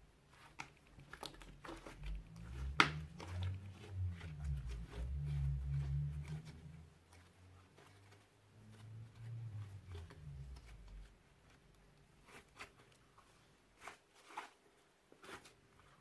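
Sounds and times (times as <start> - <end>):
slime kneaded by hand: 0.2 - 14.6.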